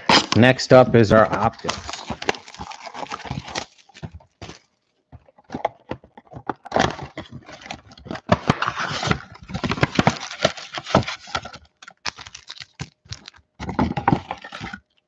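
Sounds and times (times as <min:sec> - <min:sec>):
foil packs crinkling: 0:00.0 - 0:15.0
cardboard box being opened: 0:01.1 - 0:14.9.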